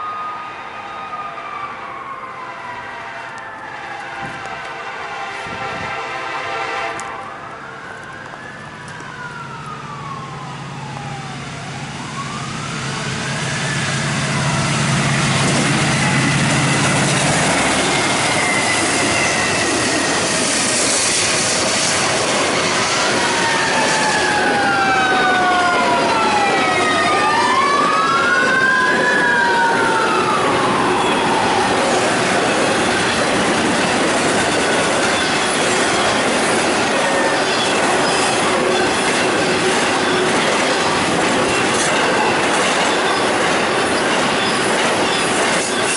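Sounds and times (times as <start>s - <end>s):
fire truck siren wailing: 0.0s - 45.9s
freight train passing: 0.0s - 45.9s.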